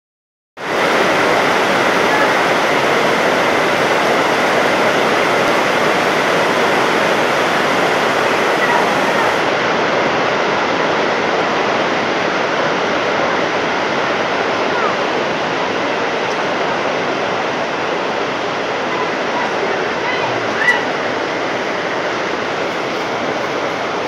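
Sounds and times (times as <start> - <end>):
heavy rain on awnings: 0.6 - 24.0
runoff streaming off awning: 0.6 - 24.0.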